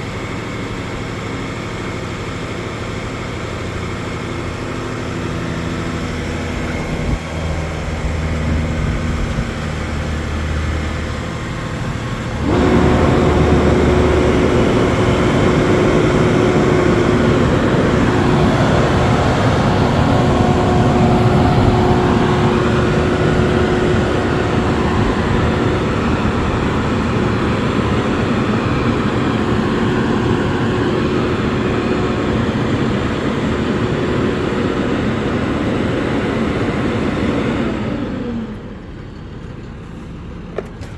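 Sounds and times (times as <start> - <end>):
truck engine running: 0.0 - 40.9
steady whine: 3.5 - 38.8.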